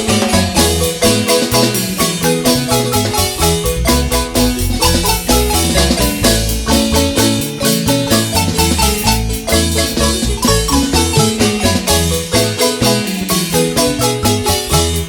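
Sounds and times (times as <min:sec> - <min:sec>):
deep bass notes: 0:00.0 - 0:15.0
marimba melody: 0:00.0 - 0:15.0
percussion beat: 0:00.0 - 0:15.0.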